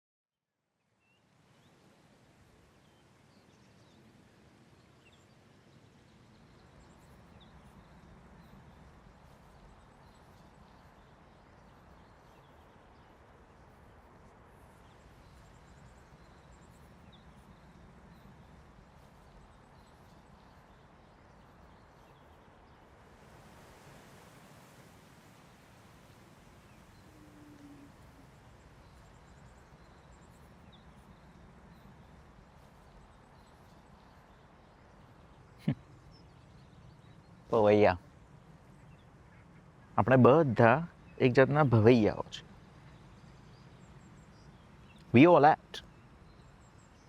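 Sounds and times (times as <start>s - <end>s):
low background noise: 0.6s - 47.0s
faint bird chirps: 2.7s - 47.0s.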